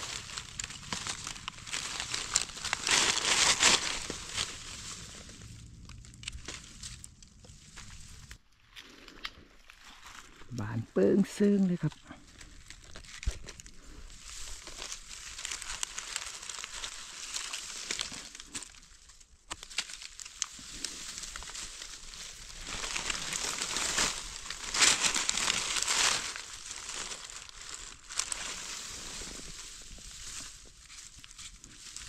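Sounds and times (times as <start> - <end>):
dry leaves rustling and crackling: 0.0 - 32.0.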